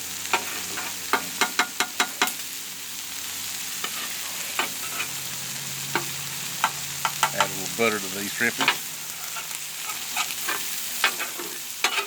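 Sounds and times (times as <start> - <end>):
food sizzling on griddle: 0.0 - 12.0.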